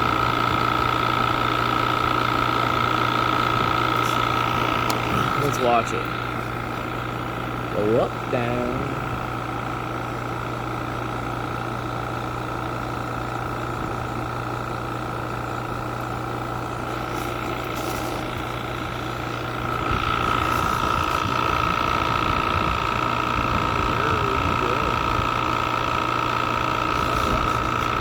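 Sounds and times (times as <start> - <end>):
crane engine whining: 0.0 - 28.0.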